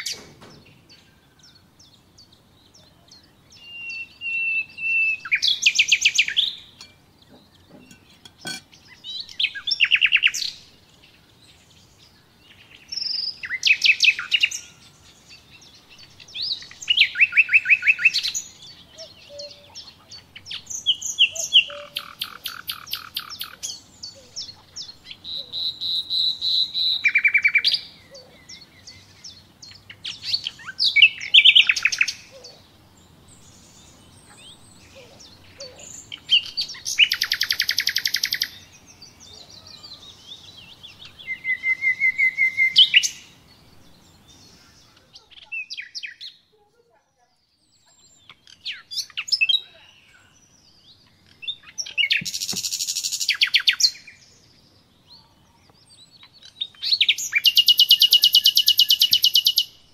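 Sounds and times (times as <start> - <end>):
songbird trilling: 0.0 - 46.5, 47.6 - 59.8.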